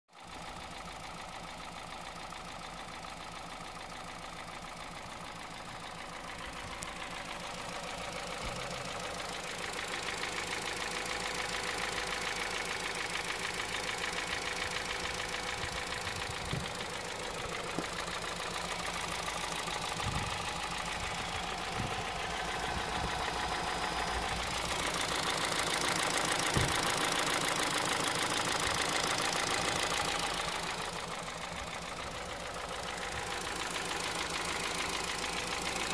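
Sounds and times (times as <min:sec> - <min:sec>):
engine knocking: 0:00.1 - 0:35.9.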